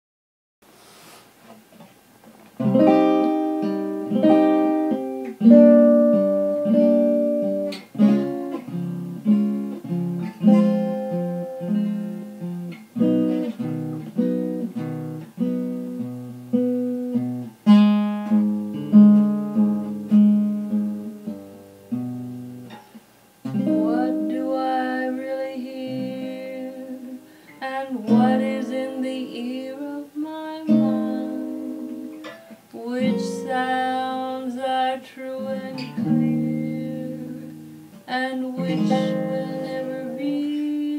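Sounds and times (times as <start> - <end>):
plucked guitar chords: 2.6 - 40.9.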